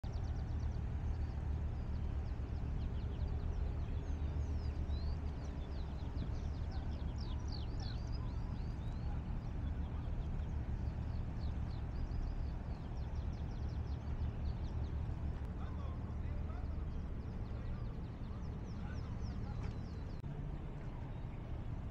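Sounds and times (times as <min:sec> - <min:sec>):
small birds twittering: 0:00.0 - 0:20.3
harbour water rumbling: 0:00.0 - 0:21.9.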